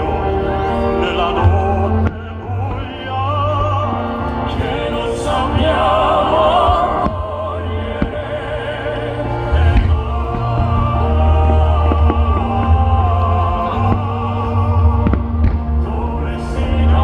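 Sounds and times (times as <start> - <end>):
operatic singing: 0.0 - 17.0
orchestral accompaniment: 0.0 - 17.0.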